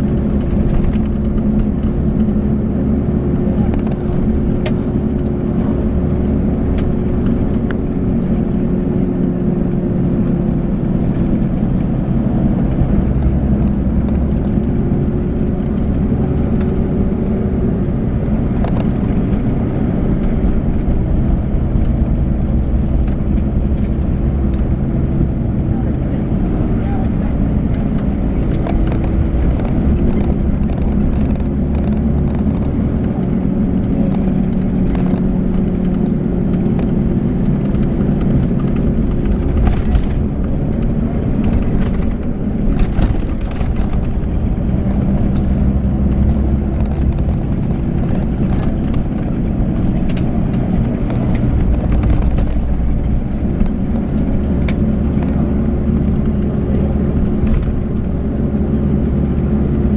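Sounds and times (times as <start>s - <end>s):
diesel coach engine running: 0.0s - 59.9s
road noise: 0.0s - 59.9s.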